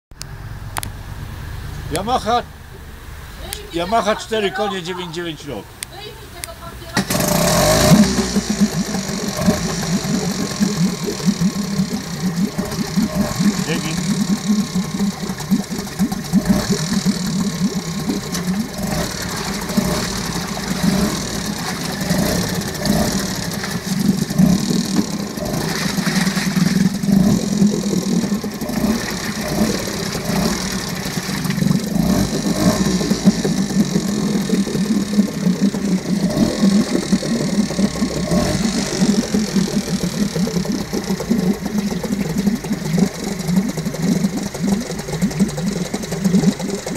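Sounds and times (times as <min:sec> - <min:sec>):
outboard motor running: 0:00.1 - 0:46.9
propeller churning water: 0:00.1 - 0:46.9.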